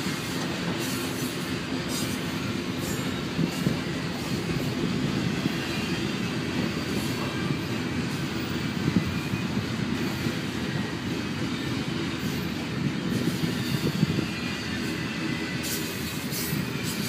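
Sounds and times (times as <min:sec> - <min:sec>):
train cars clanking: 0:00.0 - 0:17.0
train wheels rumbling on rails: 0:00.0 - 0:17.0.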